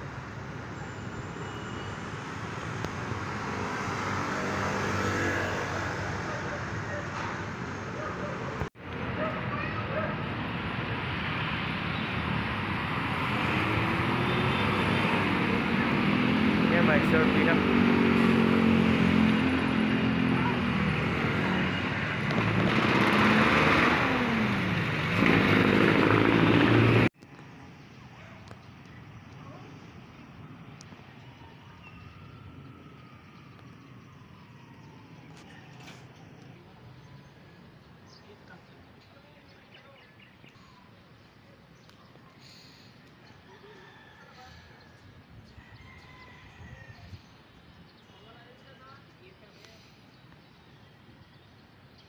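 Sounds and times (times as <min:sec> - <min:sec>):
vehicles passing on street: 0:00.0 - 0:52.0.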